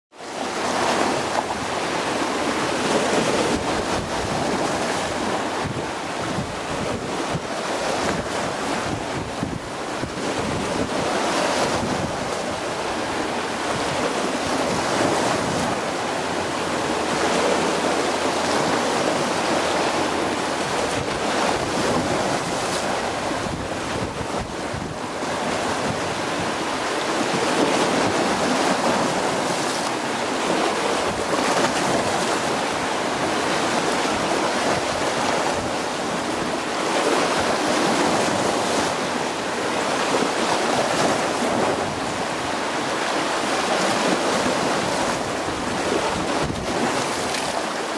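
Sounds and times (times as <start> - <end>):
sea waves washing: 0.2 - 47.9
wind gusting on microphone: 0.8 - 47.9.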